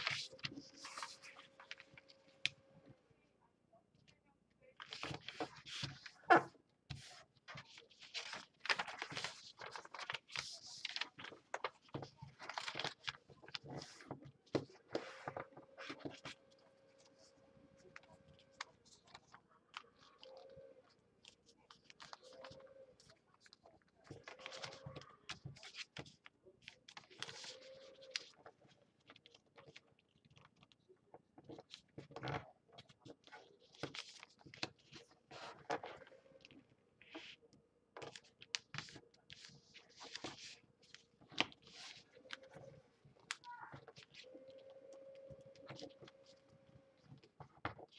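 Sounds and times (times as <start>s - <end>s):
paper crinkling and rustling: 0.0s - 2.6s, 4.8s - 47.9s.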